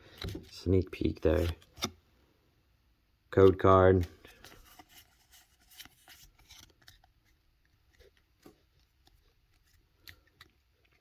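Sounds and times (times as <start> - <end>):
trading cards rustling and scraping: 0.0 - 2.0, 3.5 - 11.0.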